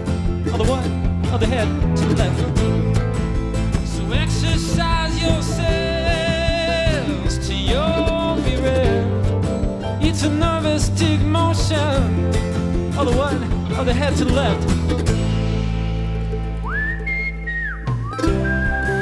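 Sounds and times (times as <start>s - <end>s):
bass and drums: 0.0s - 19.0s
sliding lead melody: 0.0s - 19.0s.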